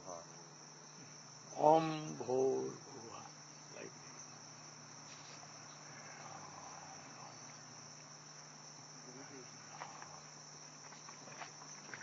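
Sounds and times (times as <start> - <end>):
high-pitched insect chirring: 0.0 - 12.0.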